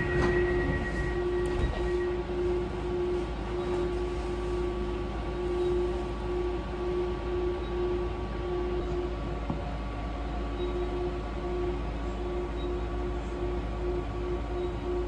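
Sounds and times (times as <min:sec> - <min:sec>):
electric train low rumble: 0:00.0 - 0:15.0
train mid-pitched hum: 0:00.0 - 0:15.0.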